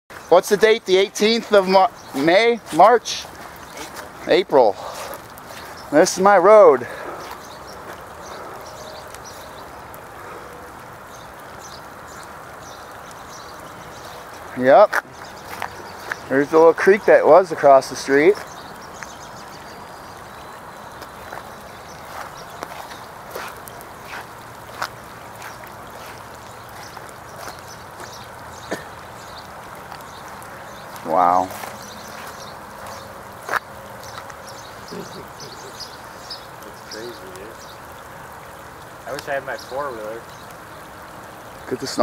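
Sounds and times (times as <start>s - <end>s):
birds chirping: 0.1s - 42.0s
floodwater rushing: 0.1s - 42.0s.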